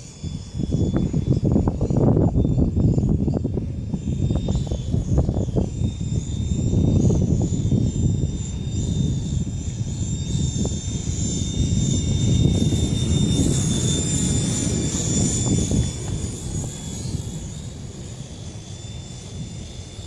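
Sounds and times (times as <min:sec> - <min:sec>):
rc helicopter motor whine: 0:00.0 - 0:20.0
wind buffeting microphone: 0:00.0 - 0:20.0.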